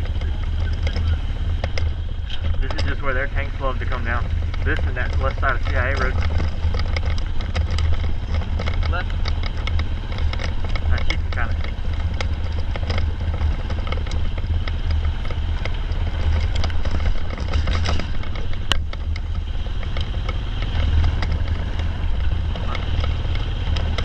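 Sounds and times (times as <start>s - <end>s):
rattling: 0.0s - 24.0s
vehicle engine low rumble: 0.0s - 24.0s.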